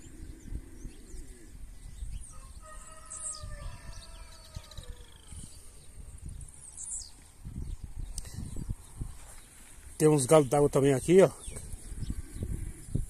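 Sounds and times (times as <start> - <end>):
wind rumble on microphone: 0.0 - 10.0, 10.6 - 13.0.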